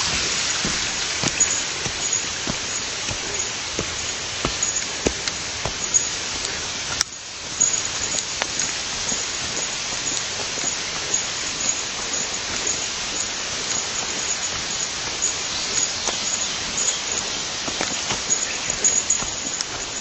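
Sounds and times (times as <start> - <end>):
faint ticks: 0.0 - 20.0
river water rushing: 0.0 - 20.0.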